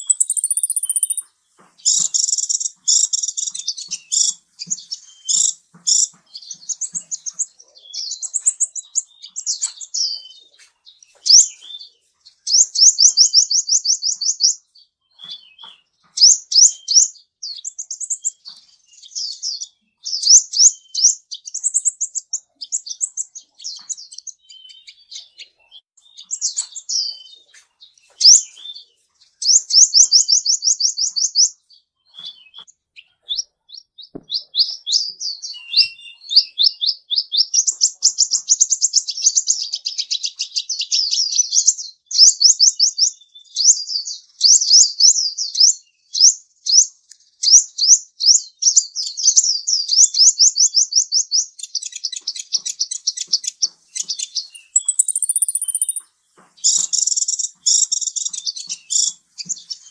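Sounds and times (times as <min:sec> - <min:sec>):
songbird singing trills: 0:00.0 - 0:59.9.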